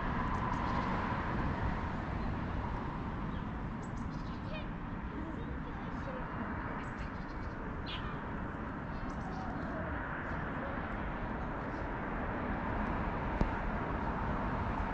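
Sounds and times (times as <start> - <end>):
low outdoor background noise: 0.0 - 14.9.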